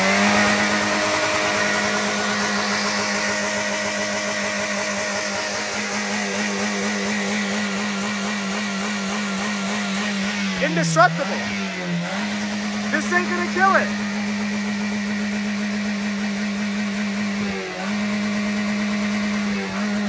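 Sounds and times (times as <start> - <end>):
car engine revving high: 0.0 - 20.0.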